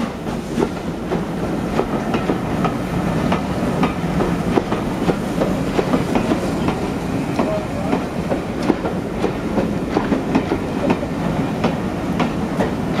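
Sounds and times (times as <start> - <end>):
railway carriage rumbling: 0.0 - 13.0
train wheels clicking over joints: 0.0 - 13.0.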